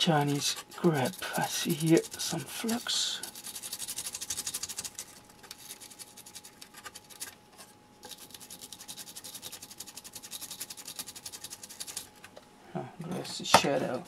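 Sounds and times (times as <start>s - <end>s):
brush scrubbing circuit board: 0.0s - 12.1s.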